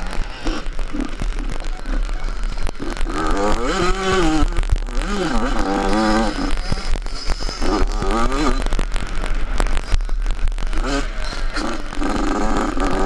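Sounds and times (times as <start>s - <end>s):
crackling wind noise: 0.0s - 13.0s
motocross bike engine revving: 0.0s - 13.0s.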